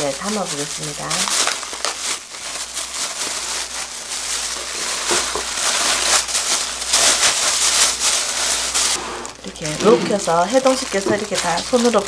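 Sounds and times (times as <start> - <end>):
plastic food bag crinkling: 0.0 - 12.0.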